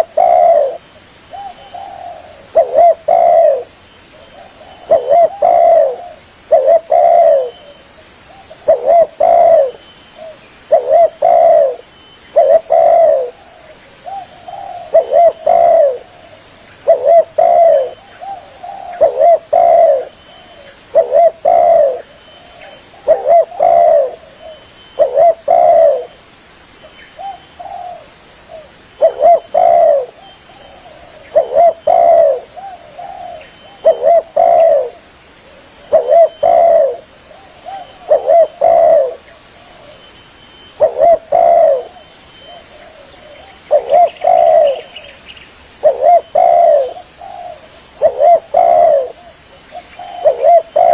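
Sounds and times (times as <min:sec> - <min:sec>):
dove cooing: 0:00.0 - 0:26.2, 0:27.2 - 0:50.9.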